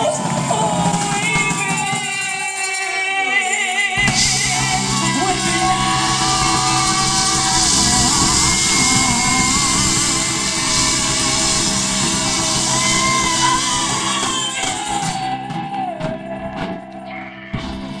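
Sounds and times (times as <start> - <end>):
drum and cymbal hits: 0.0 - 17.0
person singing: 0.0 - 18.0
rock band playing: 0.0 - 18.0.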